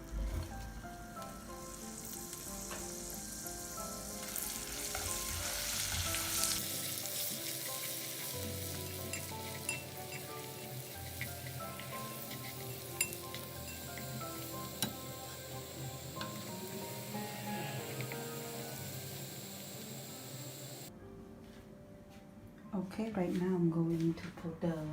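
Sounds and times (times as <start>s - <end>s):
leaves deep-frying in hot oil: 0.6s - 20.9s.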